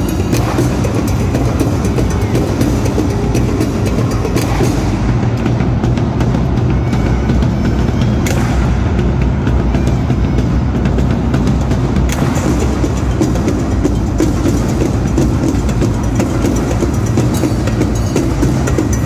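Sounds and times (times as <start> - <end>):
sharp percussive hits: 0.0 - 9.9, 10.8 - 19.0.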